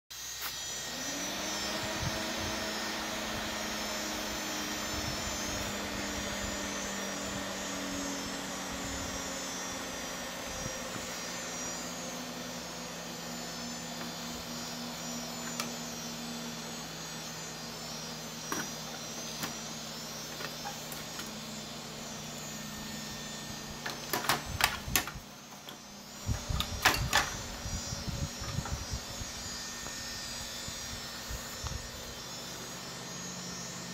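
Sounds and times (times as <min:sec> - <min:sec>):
cooling fans whirring: 0:00.1 - 0:33.9.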